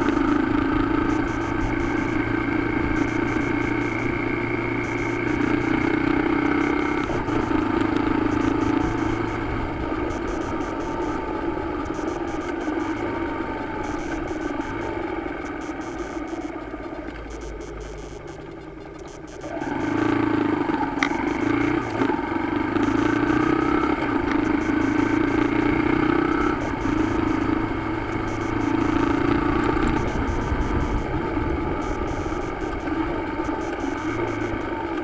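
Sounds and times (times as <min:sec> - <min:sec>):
motorcycle engine: 0:00.0 - 0:35.0
road noise: 0:00.0 - 0:35.0.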